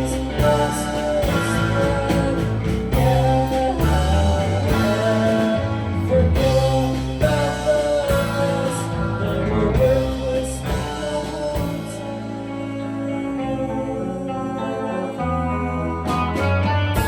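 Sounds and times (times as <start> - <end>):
bass guitar: 0.0 - 17.0
rock guitar: 0.0 - 17.0.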